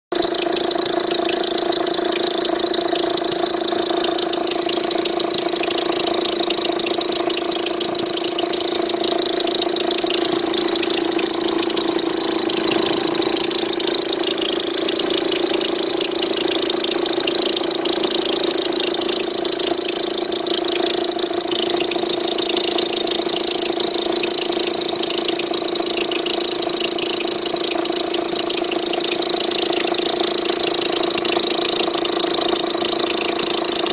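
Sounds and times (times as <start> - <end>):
alternator pulley whine: 0.1 - 33.9
car engine idling: 0.1 - 33.9.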